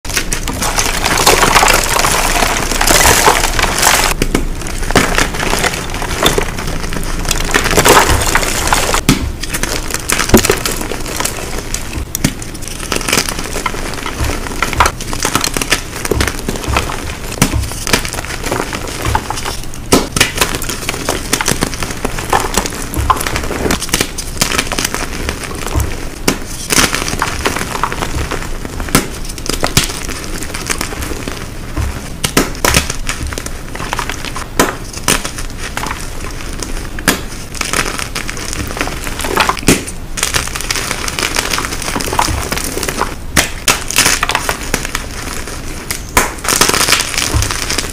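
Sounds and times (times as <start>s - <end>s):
chalk blocks crunching: 0.1s - 47.9s.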